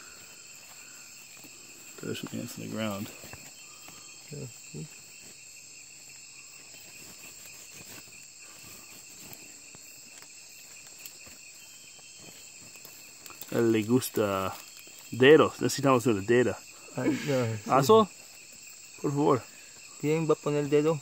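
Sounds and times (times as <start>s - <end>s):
night insects trilling: 0.0s - 21.0s.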